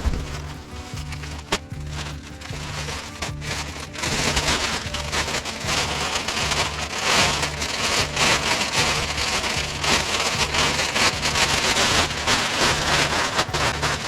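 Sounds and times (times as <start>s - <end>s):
plastic sheet rustling and crinkling: 0.0s - 14.0s.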